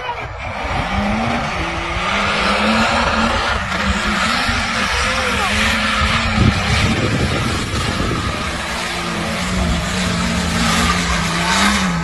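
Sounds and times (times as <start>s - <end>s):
constant rushing noise: 0.0s - 12.0s
engines running hard: 0.0s - 12.0s.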